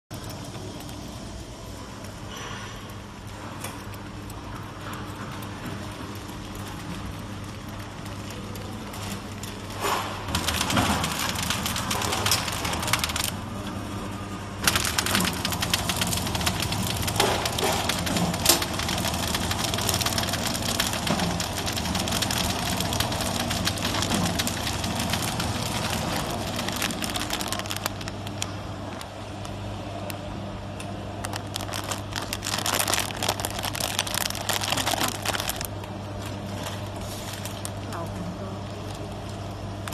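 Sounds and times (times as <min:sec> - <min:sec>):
clatter of conveyor and sealer: 0:00.1 - 0:30.2, 0:30.8 - 0:39.9
motor hum: 0:00.1 - 0:39.9.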